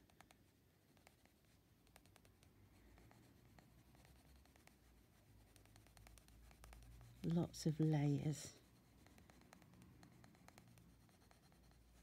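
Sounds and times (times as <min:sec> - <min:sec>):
coloured pencil scratching on paper: 0:00.2 - 0:12.0.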